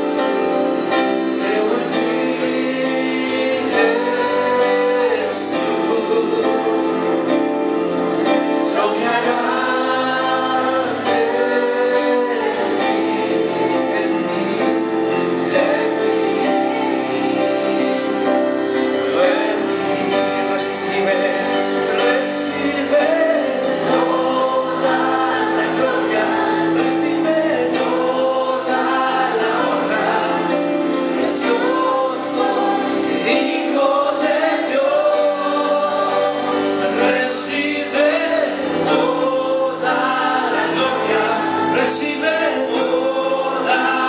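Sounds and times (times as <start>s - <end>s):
gospel singing: 0.0s - 44.0s.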